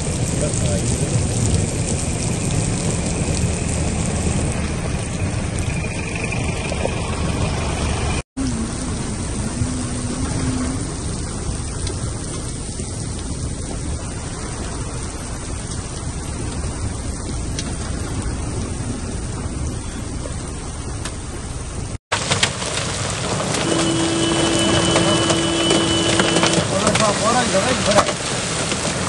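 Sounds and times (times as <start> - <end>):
torrential rain and hail: 0.0 - 29.0.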